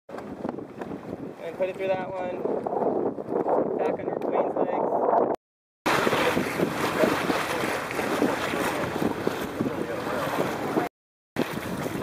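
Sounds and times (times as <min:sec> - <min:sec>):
water rushing along hull: 0:00.1 - 0:03.7, 0:05.9 - 0:12.0
wind buffeting microphone: 0:00.1 - 0:12.0.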